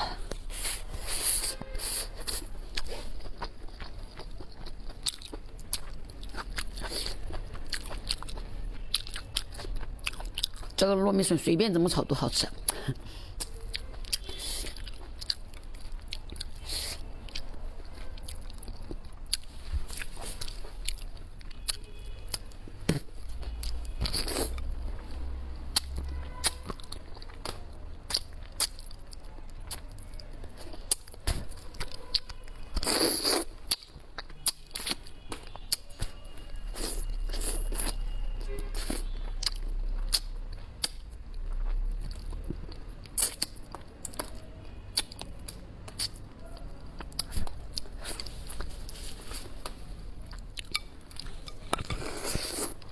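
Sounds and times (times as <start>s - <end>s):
person chewing and crunching food: 0.0s - 10.8s, 12.0s - 52.9s.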